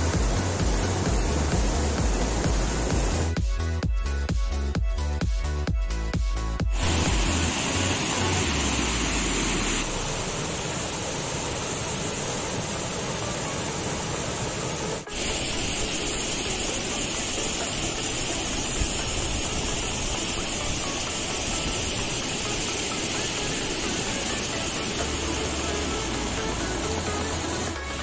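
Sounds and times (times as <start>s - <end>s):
stream rushing over rocks: 0.0s - 3.3s, 6.8s - 28.0s.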